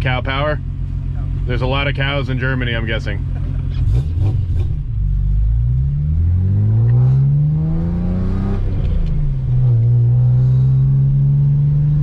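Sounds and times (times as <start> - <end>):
car engine accelerating: 0.3 - 12.0.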